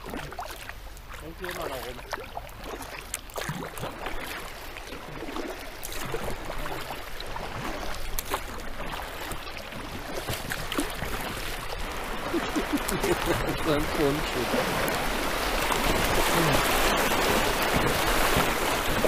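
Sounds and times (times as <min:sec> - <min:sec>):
kayak paddle splashing: 0:00.0 - 0:19.0.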